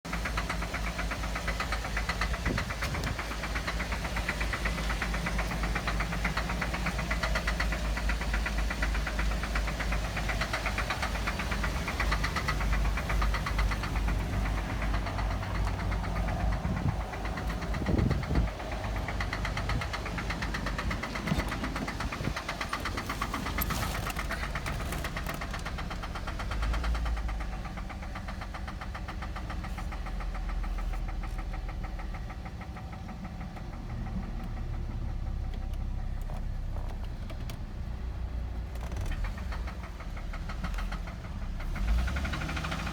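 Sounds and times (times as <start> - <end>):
engine running with rapid knock: 0.1 - 42.9.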